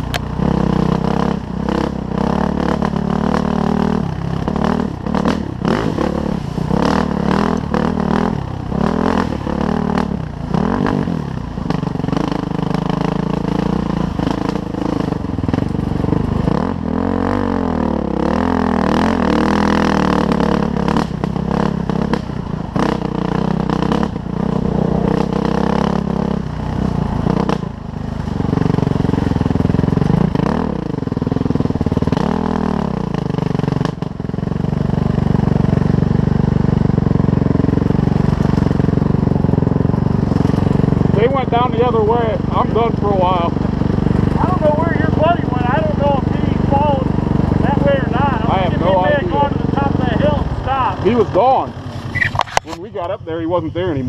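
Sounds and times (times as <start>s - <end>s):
dirt bike engine running: 0.0s - 54.0s
bike knocking and rattling: 6.7s - 17.1s, 20.2s - 53.1s.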